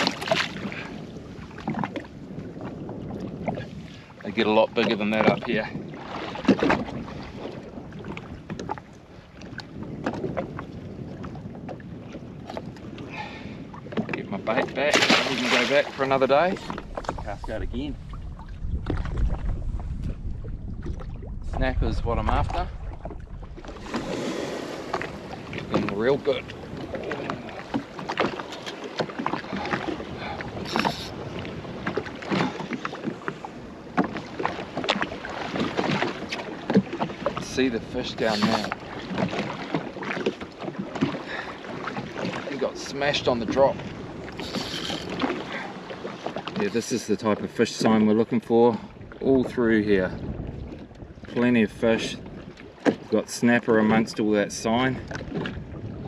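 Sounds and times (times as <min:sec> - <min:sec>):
wind on microphone: 0:00.0 - 0:46.9, 0:48.8 - 0:56.0
water moving against hull: 0:00.0 - 0:56.0.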